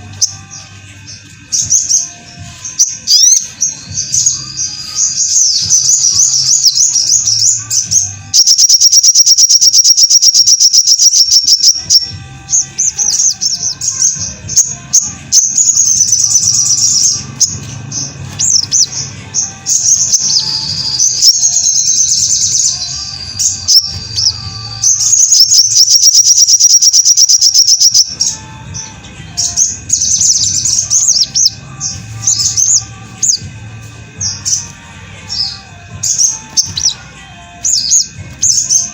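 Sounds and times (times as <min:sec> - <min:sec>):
bird singing chattering trills: 0:00.0 - 0:38.9.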